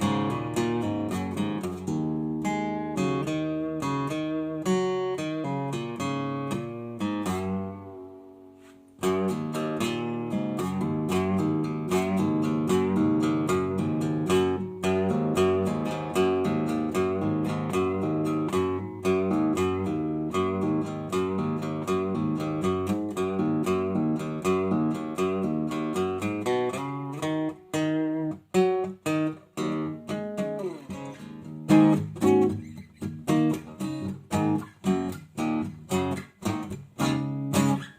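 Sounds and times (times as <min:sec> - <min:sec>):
acoustic guitar strumming: 0:00.0 - 0:37.9.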